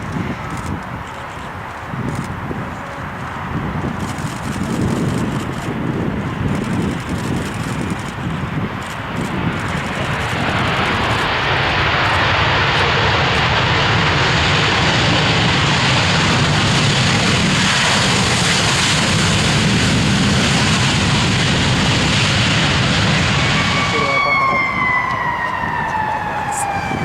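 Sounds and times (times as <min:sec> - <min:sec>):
airliner engines rushing: 0:00.0 - 0:27.0.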